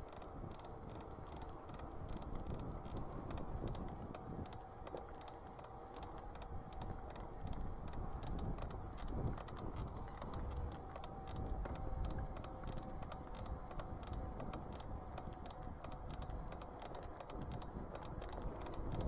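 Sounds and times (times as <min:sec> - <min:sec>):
faint steady whine: 0:00.0 - 0:19.0
small clicks and rattles: 0:00.0 - 0:19.0
wind and road rumble: 0:00.2 - 0:19.0.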